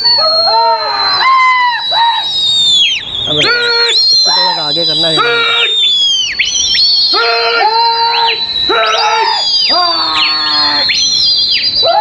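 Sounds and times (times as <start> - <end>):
shrill whistle-like tone: 0.0 - 12.0
voices hooting and shouting: 0.0 - 12.0.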